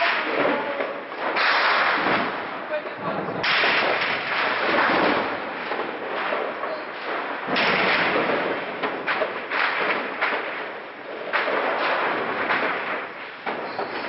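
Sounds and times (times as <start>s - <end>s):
echoing gunshots: 0.0s - 14.0s
loud blast: 0.0s - 14.0s.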